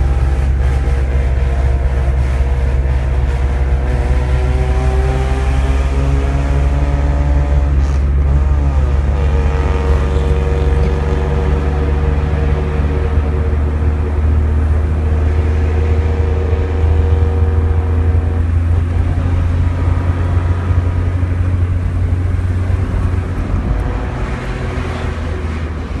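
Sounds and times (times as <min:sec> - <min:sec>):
car exhaust deep drone: 0:00.0 - 0:26.0.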